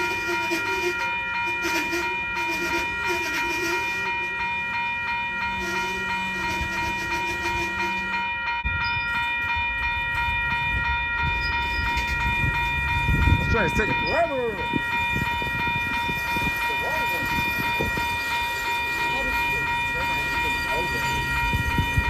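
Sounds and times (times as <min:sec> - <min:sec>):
freight train rumbling past: 0:00.0 - 0:22.0
high ringing tones: 0:00.0 - 0:22.0.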